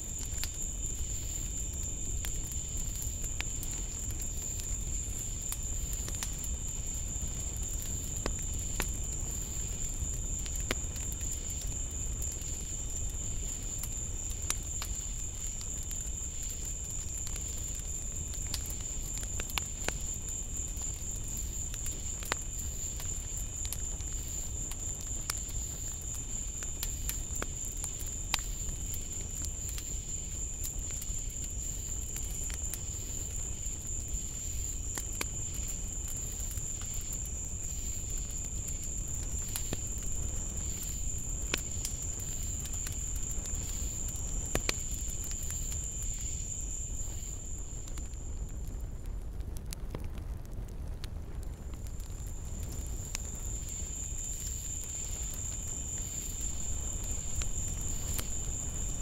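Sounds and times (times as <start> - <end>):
insects trilling: 0.0 - 48.5, 52.0 - 59.0.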